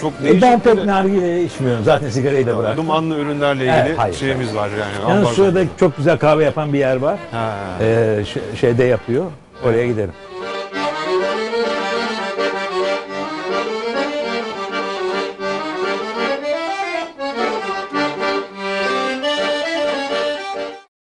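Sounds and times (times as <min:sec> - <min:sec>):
accordion melody: 0:00.0 - 0:20.9.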